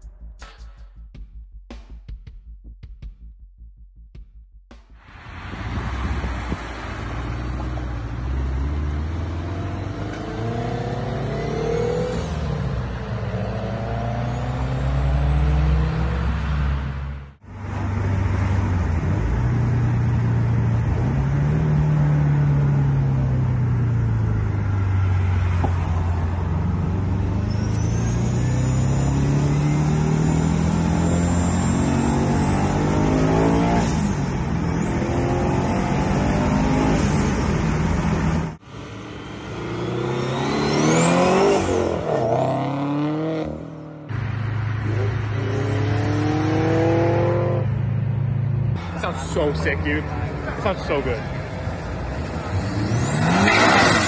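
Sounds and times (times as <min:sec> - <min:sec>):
car engine accelerating and shifting: 0:05.1 - 0:54.0.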